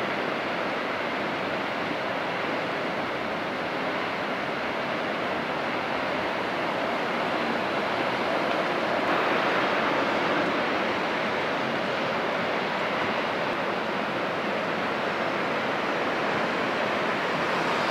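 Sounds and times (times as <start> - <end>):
sea waves rushing: 2.5 - 17.9.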